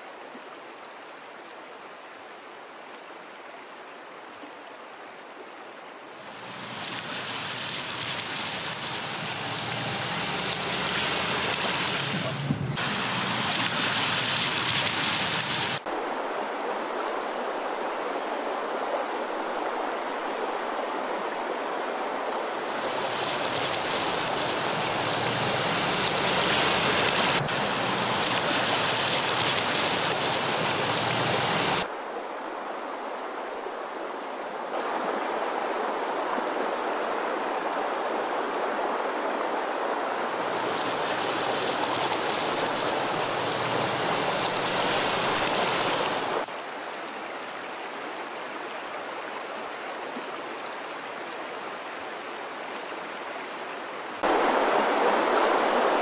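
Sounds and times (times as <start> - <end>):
river water rushing and splashing: 0.0 - 56.0.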